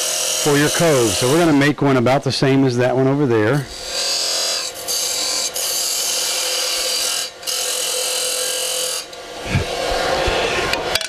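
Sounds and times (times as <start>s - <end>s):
lathe tool scraping wood: 0.0s - 1.8s, 3.6s - 11.0s.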